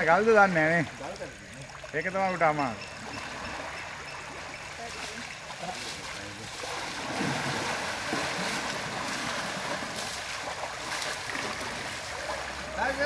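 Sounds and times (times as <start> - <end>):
river flowing: 0.0 - 13.0
water splashing and surging: 0.0 - 13.0.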